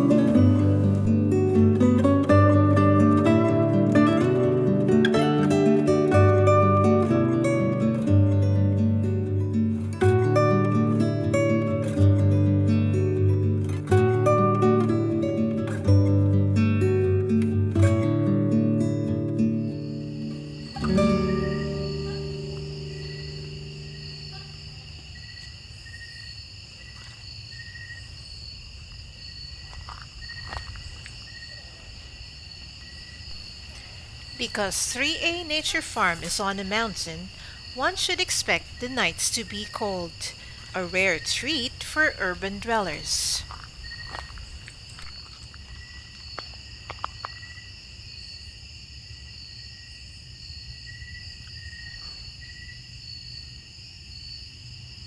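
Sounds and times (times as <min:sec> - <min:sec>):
crickets trilling: 0:00.0 - 0:55.0
lower-pitched cricket chirping: 0:00.0 - 0:55.0.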